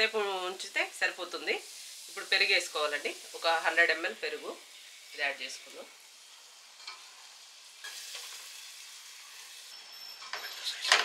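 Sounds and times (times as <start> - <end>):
oil and masala sizzling in a pot: 0.0 - 11.0.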